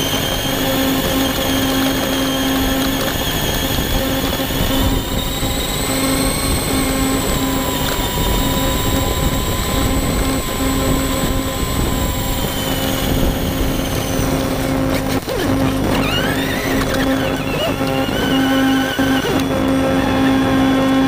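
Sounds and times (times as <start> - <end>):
rc truck motor whining: 0.0 - 21.0.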